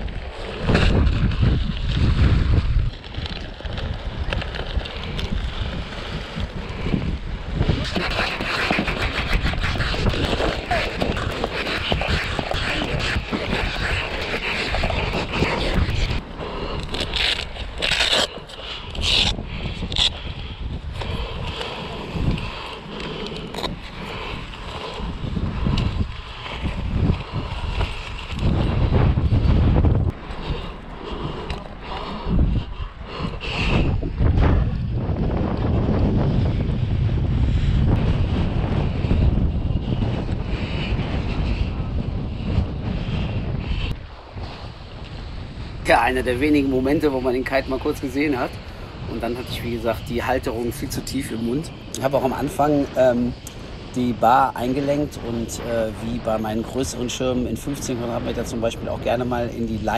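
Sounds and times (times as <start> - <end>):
kite fabric crackling: 0.0 - 59.9
wind buffeting microphone: 0.0 - 59.9.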